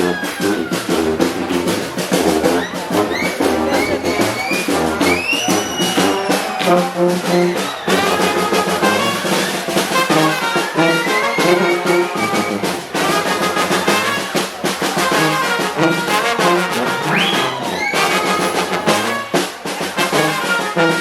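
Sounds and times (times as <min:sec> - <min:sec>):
brass band playing: 0:00.0 - 0:21.0
driving drum beat: 0:00.0 - 0:21.0.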